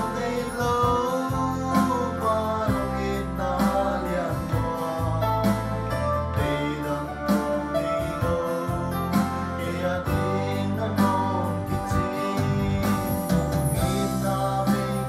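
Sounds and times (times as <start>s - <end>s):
electronic keyboard accompaniment: 0.0s - 15.0s
man singing a hymn: 0.0s - 15.0s.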